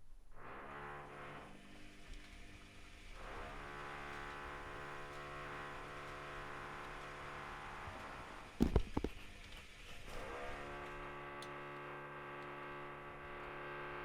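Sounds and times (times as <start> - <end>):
washing machine drum motor hum: 1.6 - 13.6.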